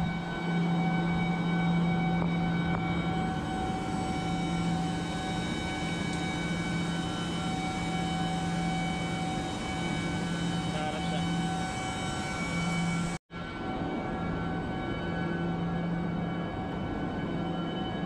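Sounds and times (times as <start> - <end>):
chiller machinery drone: 0.0 - 18.0.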